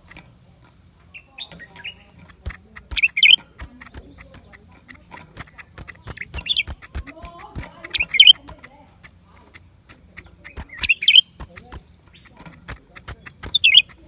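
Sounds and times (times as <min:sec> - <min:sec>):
bird squeaky calls: 0:00.0 - 0:14.0
faint clicks: 0:00.0 - 0:14.0.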